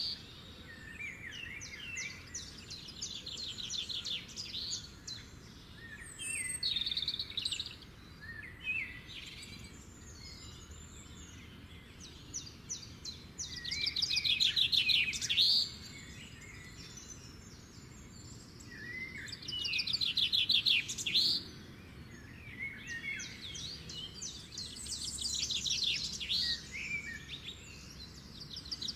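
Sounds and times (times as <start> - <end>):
small birds singing trills: 0.0 - 28.9.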